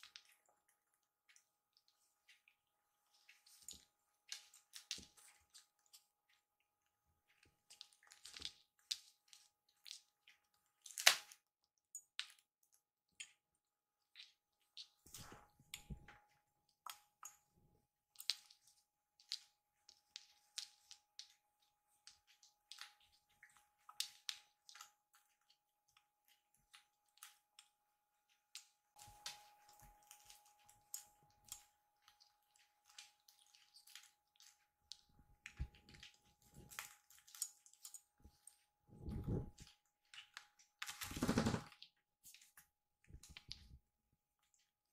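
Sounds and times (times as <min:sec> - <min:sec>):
kitten licking and nibbling paws: 0:00.0 - 0:40.8, 0:41.9 - 0:44.9.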